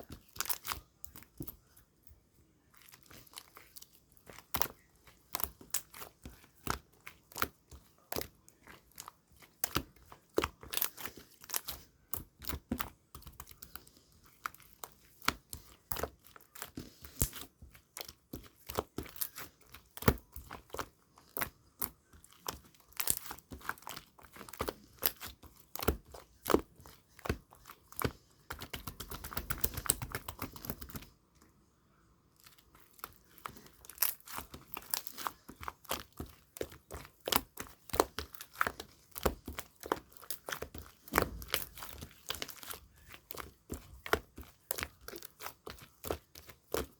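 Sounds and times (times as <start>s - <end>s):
rapid slime crackling: 0.0s - 31.3s, 32.3s - 46.9s.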